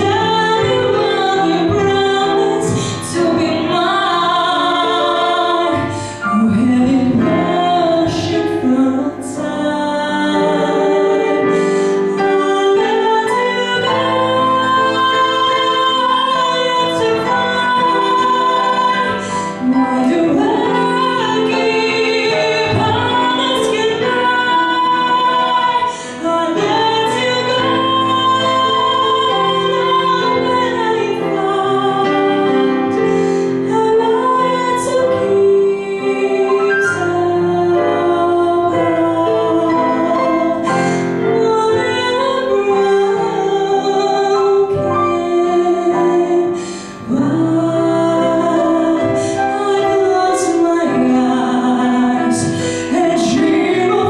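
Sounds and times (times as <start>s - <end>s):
digital piano accompaniment: 0.0s - 54.0s
woman singing into a microphone: 0.0s - 54.0s.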